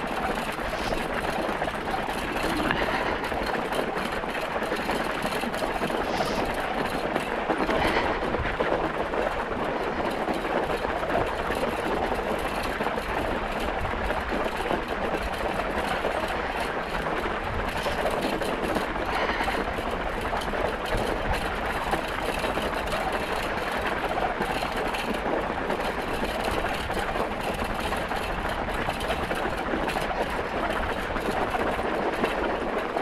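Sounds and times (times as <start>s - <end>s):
scooter tyres rolling on snow: 0.0s - 33.0s.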